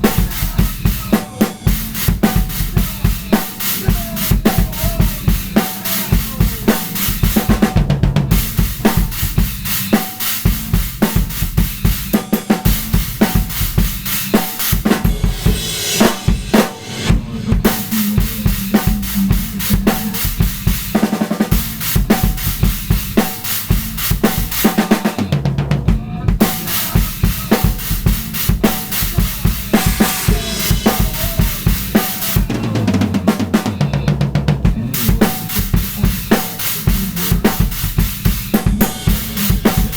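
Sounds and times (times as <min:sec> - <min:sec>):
drum kit playing fast: 0:00.0 - 0:39.9.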